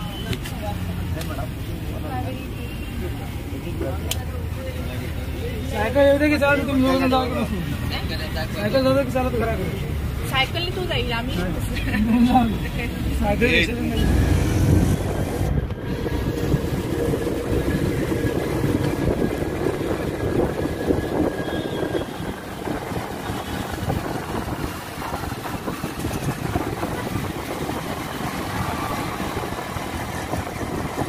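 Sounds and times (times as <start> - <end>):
rumble of passing vehicles: 0.0 - 31.0.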